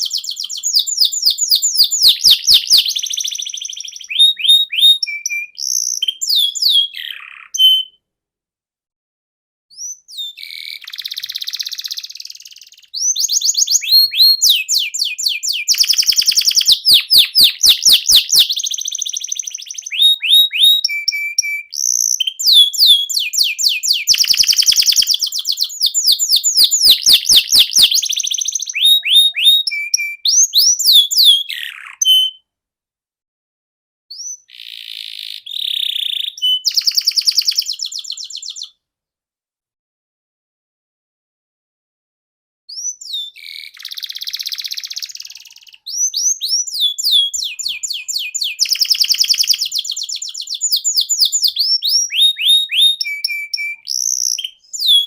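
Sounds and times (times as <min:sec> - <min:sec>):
canary singing trills: 0:00.0 - 0:08.0, 0:09.7 - 0:32.4, 0:34.1 - 0:38.7, 0:42.7 - 0:55.0.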